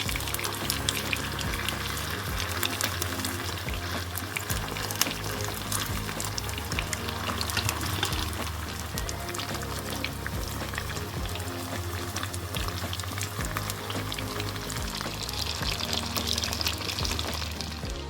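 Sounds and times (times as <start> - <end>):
background music: 0.0 - 18.0
hot oil sizzling in a pan: 0.1 - 17.8.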